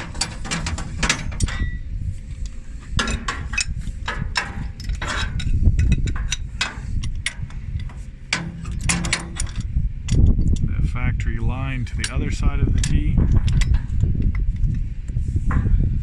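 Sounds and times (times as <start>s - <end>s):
low handling rumble: 0.0s - 16.0s.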